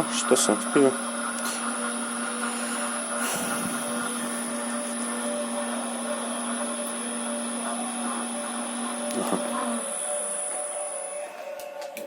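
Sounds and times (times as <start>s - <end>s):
lathe motor hum and whine: 0.0s - 12.0s.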